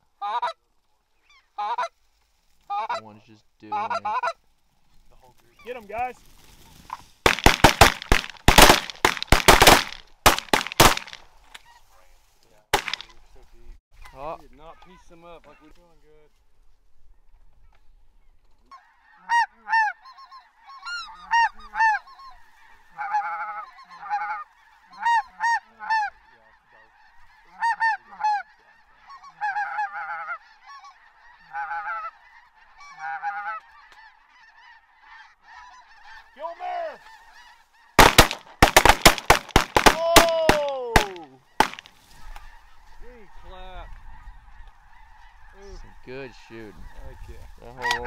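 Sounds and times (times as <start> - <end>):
geese honking: 0.2 - 4.6, 5.2 - 12.2, 18.6 - 48.0.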